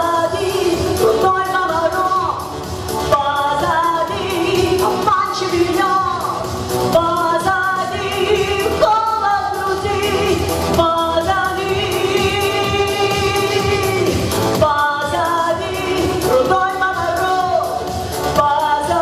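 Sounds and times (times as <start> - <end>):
backing music with steady beat: 0.0 - 19.0.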